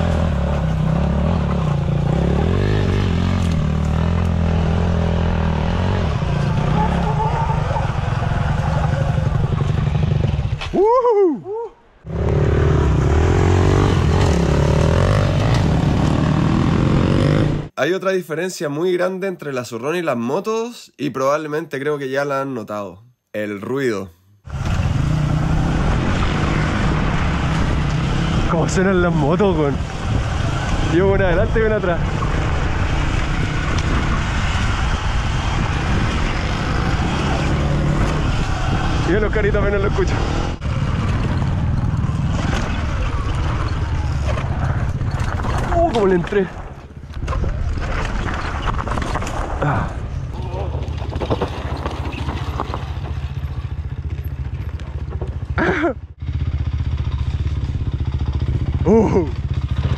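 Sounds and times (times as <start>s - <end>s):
motorcycle engines running: 0.0s - 10.7s, 12.0s - 17.7s, 24.5s - 47.6s, 49.6s - 59.9s
wind: 0.0s - 59.9s.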